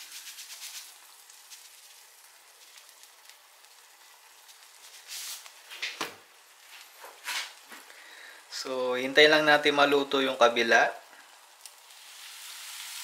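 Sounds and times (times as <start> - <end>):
food sizzling in frying pan: 0.0 - 13.0.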